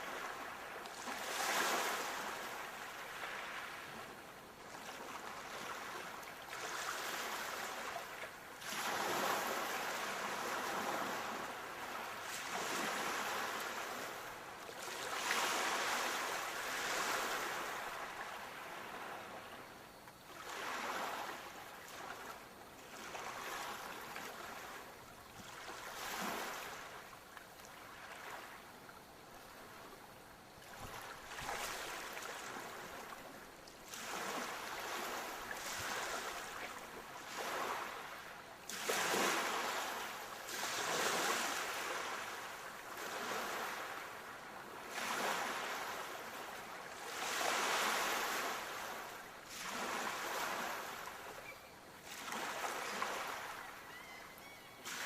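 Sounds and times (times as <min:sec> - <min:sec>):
sea waves breaking on shore: 0:00.0 - 0:29.9, 0:30.5 - 0:55.0.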